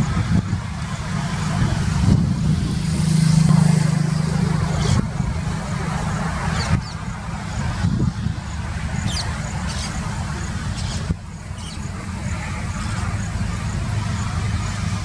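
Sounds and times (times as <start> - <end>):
highway traffic noise: 0.0 - 15.0
vehicle passing by: 0.0 - 15.0.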